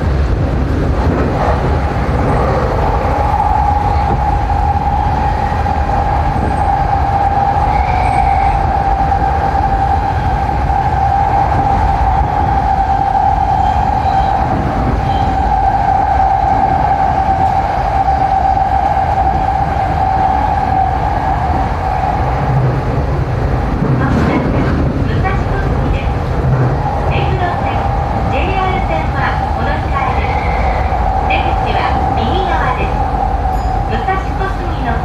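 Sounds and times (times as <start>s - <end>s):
train wheels rumbling on track: 0.0s - 35.0s
high-pitched train whine: 1.5s - 22.7s, 25.2s - 35.0s.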